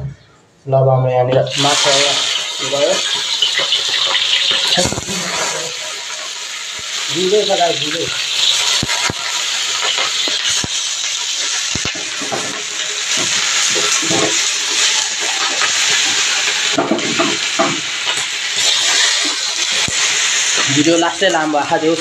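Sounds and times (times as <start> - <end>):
fish sizzling in a wok: 1.5 - 22.0.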